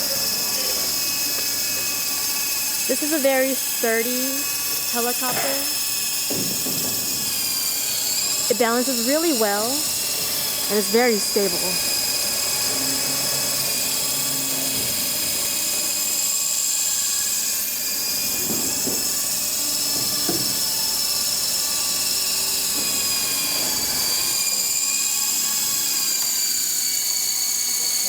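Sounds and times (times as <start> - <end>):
rc helicopter rotor whine: 0.0 - 28.0.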